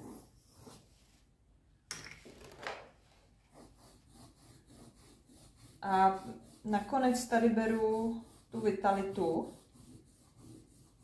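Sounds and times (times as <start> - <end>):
pencil strokes on paper: 0.0 - 1.3, 3.1 - 11.0.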